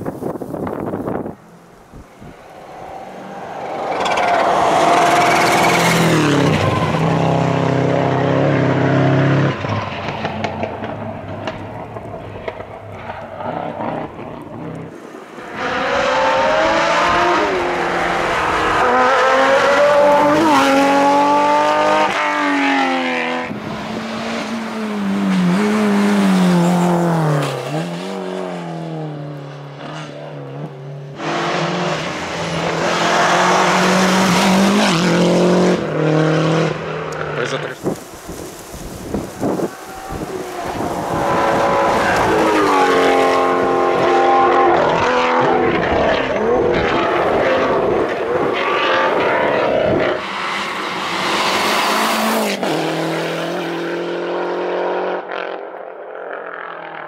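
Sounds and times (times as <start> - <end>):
rally cars passing at full speed: 0.0 - 57.0.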